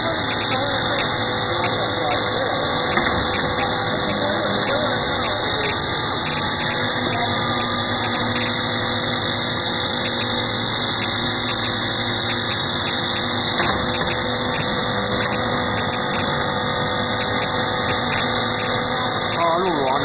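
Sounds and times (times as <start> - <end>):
workshop machinery droning: 0.0 - 20.0.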